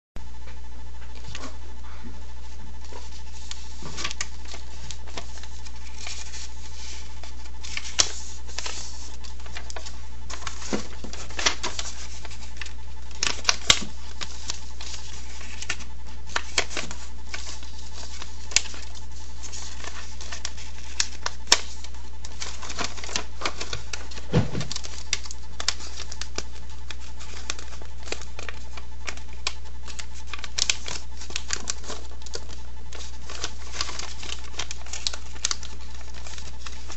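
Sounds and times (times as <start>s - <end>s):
steady low hum: 0.2s - 36.9s
paper being folded and creased: 2.4s - 36.9s.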